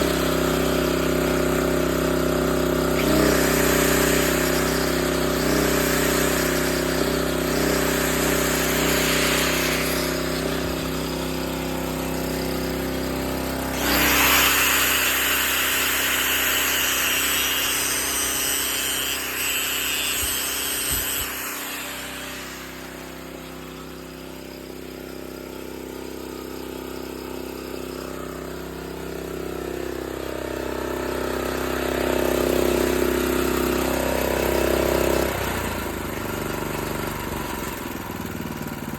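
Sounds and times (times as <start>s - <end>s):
electric grinder on metal: 0.0s - 38.9s
generator engine running: 0.0s - 38.9s.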